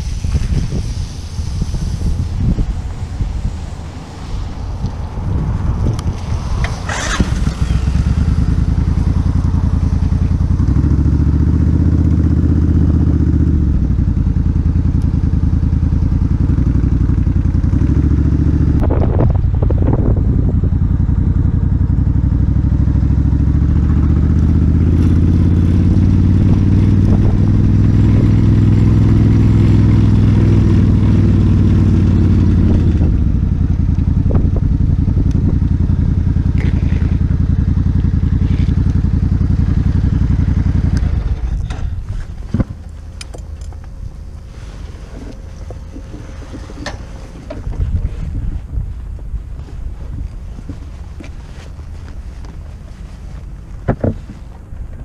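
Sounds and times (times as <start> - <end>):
motorcycle engine running: 5.2 - 55.0.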